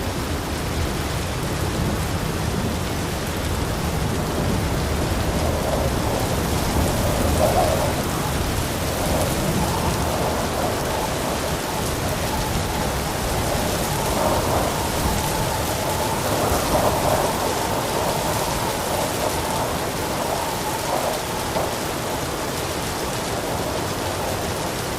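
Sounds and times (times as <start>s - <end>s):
heavy rain pouring: 0.0s - 24.9s
rolling thunder: 0.1s - 24.9s.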